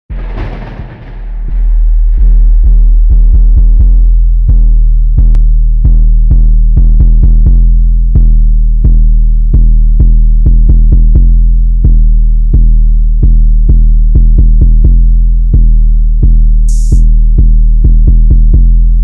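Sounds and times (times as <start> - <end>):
hip-hop beat: 1.6 - 11.4, 13.2 - 19.0.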